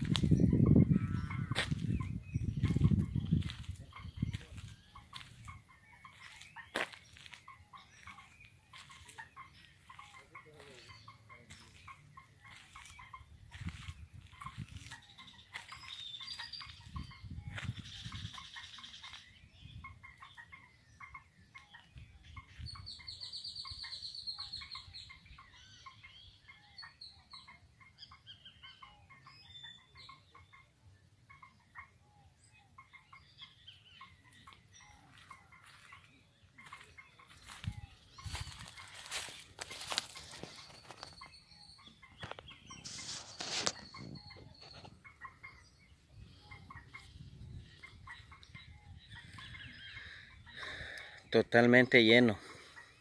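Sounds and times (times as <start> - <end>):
bird chirps: 0.0 - 53.0.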